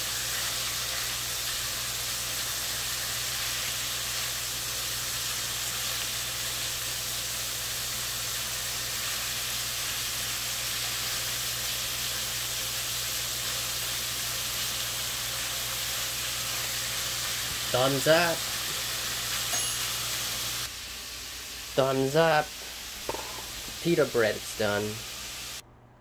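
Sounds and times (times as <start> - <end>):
beef sizzling in a frying pan: 0.0 - 25.6.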